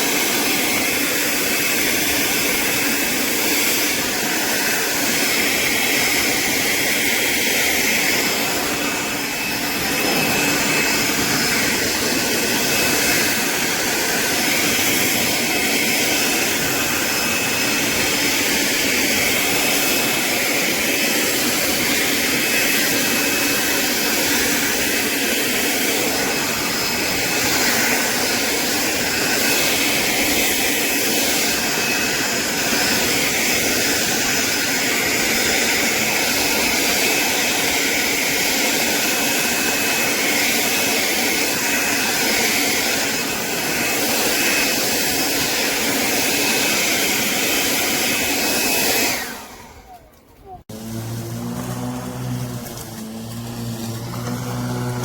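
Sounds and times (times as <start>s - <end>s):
electric lawn mower whining: 0.0s - 55.0s.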